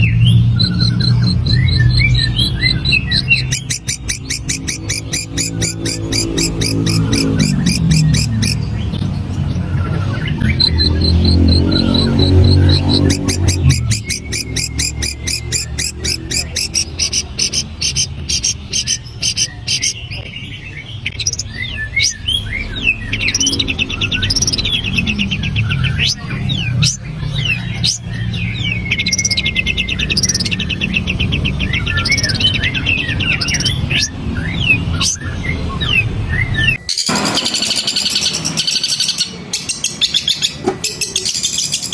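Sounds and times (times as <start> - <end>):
shrike singing mimicry song: 0.0 - 41.9.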